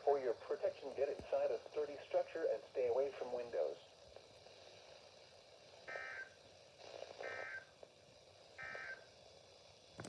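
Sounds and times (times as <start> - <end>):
buzzy digital data bursts: 0.0 - 10.0.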